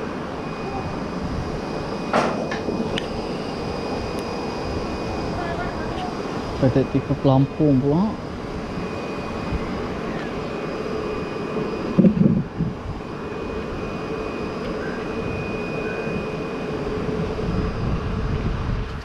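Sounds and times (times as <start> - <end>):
faint high whine: 0.0 - 19.0
mechanical drone with low hum: 0.0 - 19.0.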